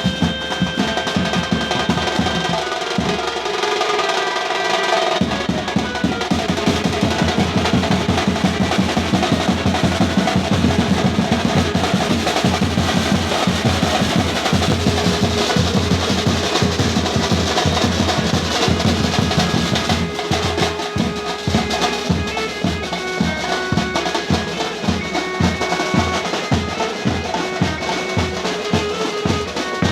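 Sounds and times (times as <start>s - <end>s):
held instrument notes: 0.0s - 29.9s
procession band drumming: 0.0s - 29.9s.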